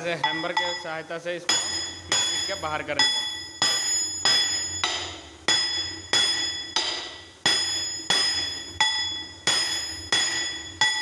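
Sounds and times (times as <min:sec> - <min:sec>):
metallic ringing: 0:00.0 - 0:11.0
hammer striking metal: 0:00.2 - 0:11.0.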